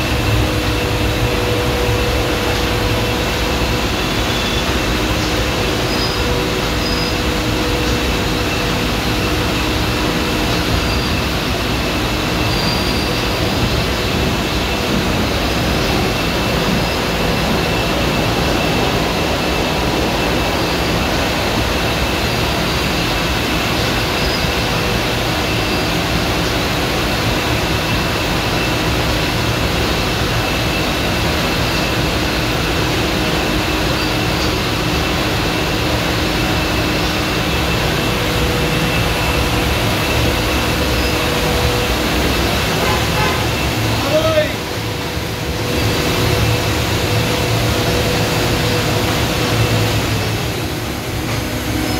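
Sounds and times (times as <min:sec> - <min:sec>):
air dryer blowers rushing: 0:00.0 - 0:51.9.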